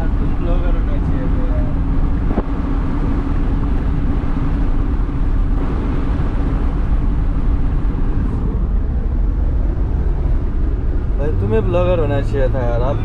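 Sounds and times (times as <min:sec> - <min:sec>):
car road and engine rumble: 0:00.0 - 0:13.0
low hum: 0:00.0 - 0:13.0.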